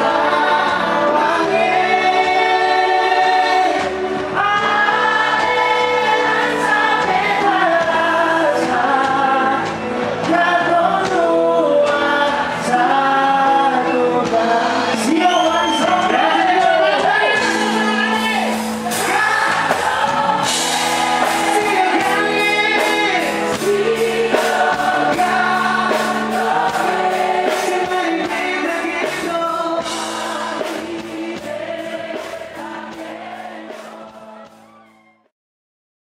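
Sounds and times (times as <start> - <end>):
live band music with singing: 0.0 - 35.3.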